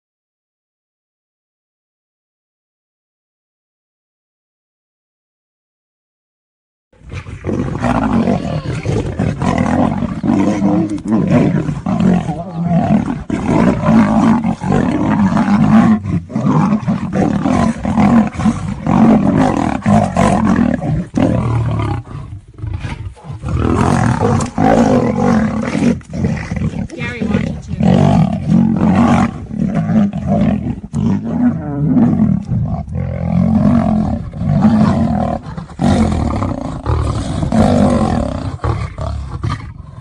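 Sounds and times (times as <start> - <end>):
lion and tiger roaring: 7.0 - 40.0.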